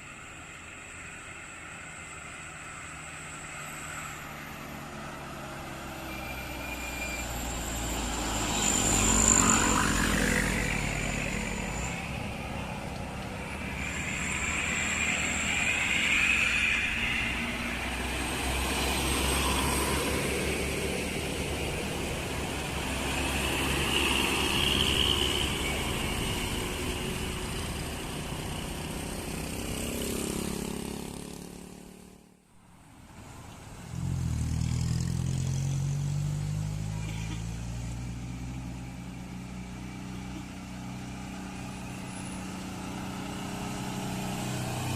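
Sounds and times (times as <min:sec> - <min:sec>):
vehicles passing on a road: 0:00.0 - 0:44.9.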